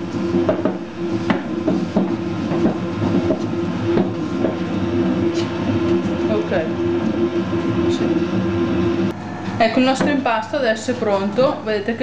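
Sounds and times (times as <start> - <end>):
dough mixer motor hum: 0.0 - 12.0.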